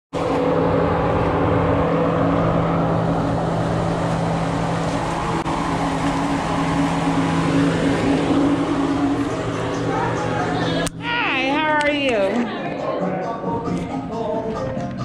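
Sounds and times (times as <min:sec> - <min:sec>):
motor humming: 0:00.2 - 0:12.6.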